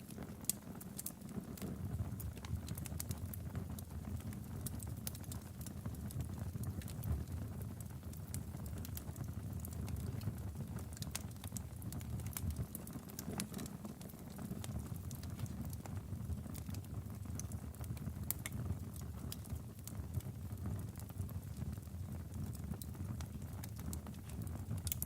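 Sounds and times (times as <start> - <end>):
fire crackling and popping: 0.0 - 25.0
flames rumbling: 0.0 - 25.0.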